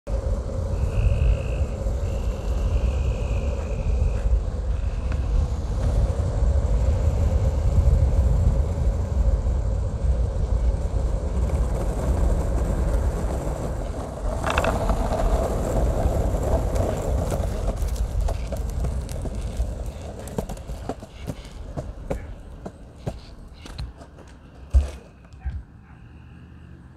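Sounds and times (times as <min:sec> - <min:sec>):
wind buffeting microphone: 0:00.1 - 0:24.8
wheels rolling on asphalt: 0:00.1 - 0:25.8.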